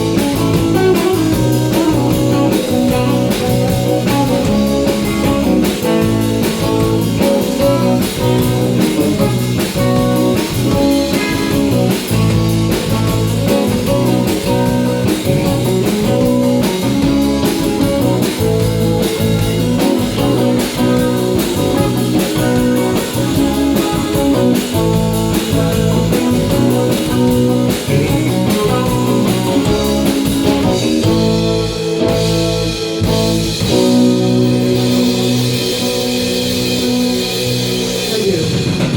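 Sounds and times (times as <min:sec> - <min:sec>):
country band playing: 0:00.0 - 0:38.9
electric guitar: 0:00.0 - 0:38.9.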